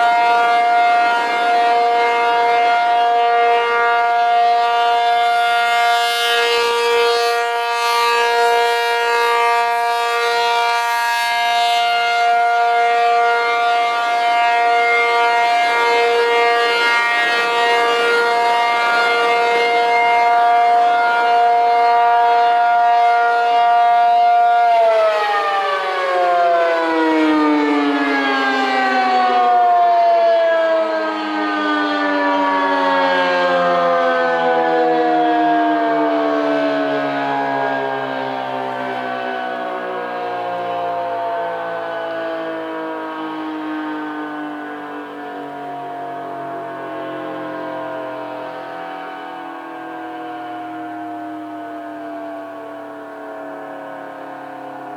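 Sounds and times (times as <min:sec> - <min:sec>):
dual-tone warning siren: 0:00.0 - 0:54.9.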